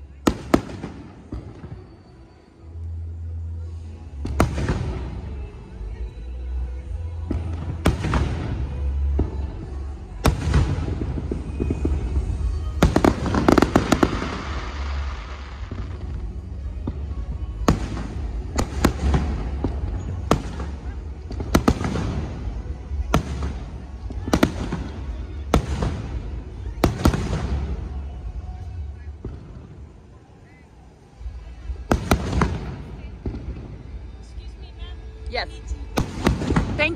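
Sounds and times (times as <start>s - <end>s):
firework crackling: 0.0s - 5.7s, 7.2s - 36.9s
firework bangs: 0.3s - 2.2s, 4.2s - 5.4s, 7.2s - 30.0s, 31.2s - 34.2s, 35.8s - 36.9s.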